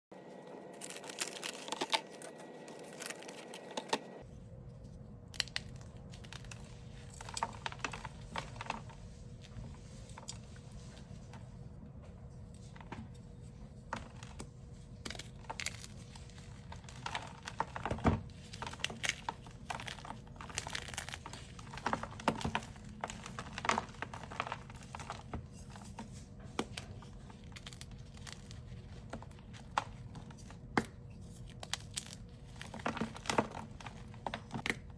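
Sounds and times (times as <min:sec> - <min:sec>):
concrete mix crackling and crunching: 0:00.6 - 0:10.6, 0:13.8 - 0:34.9.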